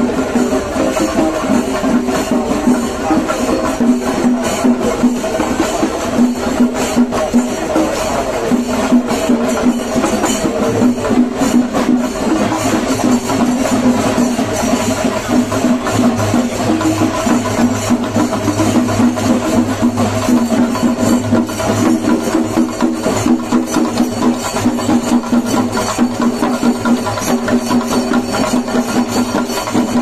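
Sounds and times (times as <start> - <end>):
drums playing fast rhythm: 0.0 - 30.0.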